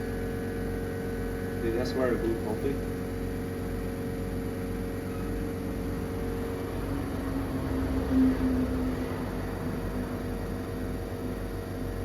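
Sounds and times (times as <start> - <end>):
espresso machine pump running: 0.0 - 12.0.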